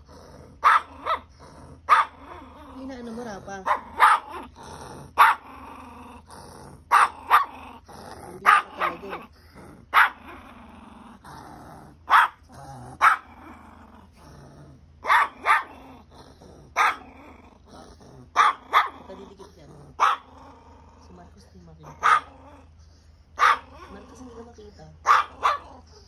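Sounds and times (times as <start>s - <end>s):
small dogs barking: 0.0s - 11.3s, 11.9s - 14.2s, 14.9s - 26.0s
dogs growling: 0.0s - 26.0s.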